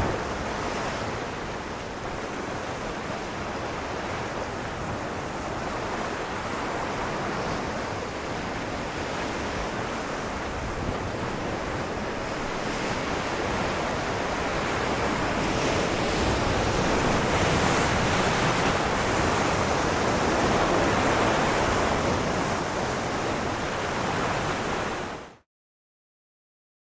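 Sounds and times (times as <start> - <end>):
ocean waves on rocks: 0.0 - 25.4.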